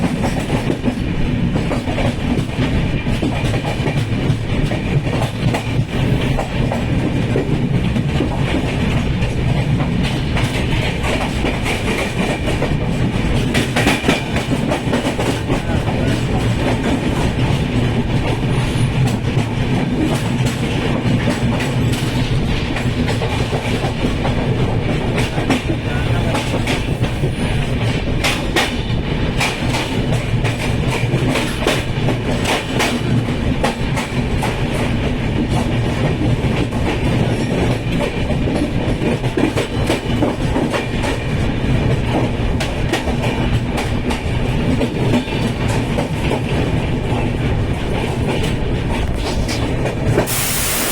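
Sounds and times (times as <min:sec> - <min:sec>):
train rumbling on track: 0:00.0 - 0:50.9.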